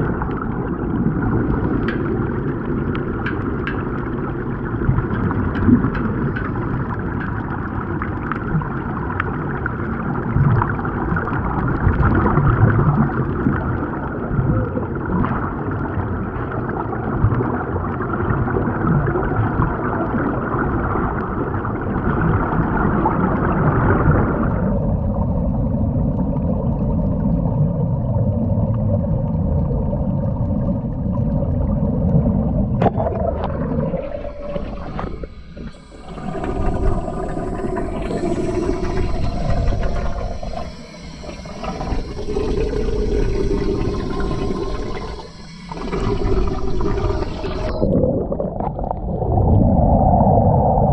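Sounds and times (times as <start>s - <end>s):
underwater air bubbling: 0.0s - 50.9s.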